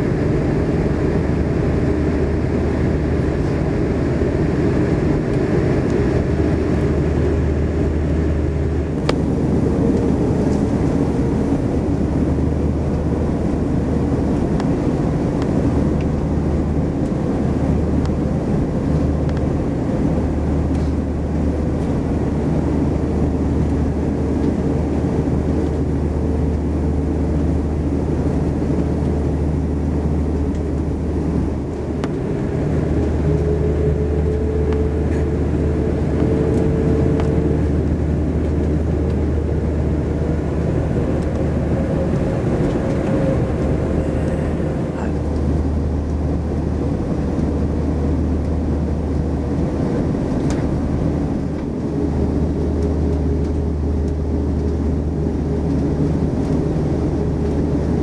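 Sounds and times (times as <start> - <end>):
jet engines idling in cabin: 0.0 - 58.0.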